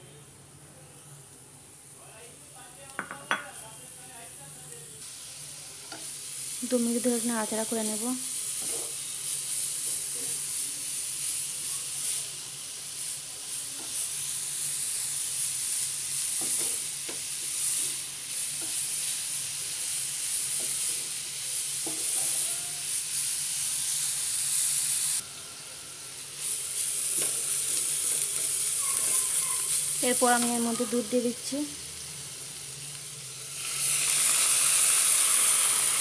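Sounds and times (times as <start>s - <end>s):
vegetables sizzling in a frying pan: 0.9s - 36.0s.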